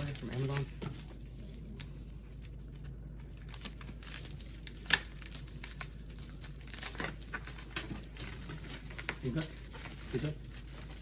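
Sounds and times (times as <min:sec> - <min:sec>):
cardboard and plastic crinkling: 0:00.0 - 0:11.0.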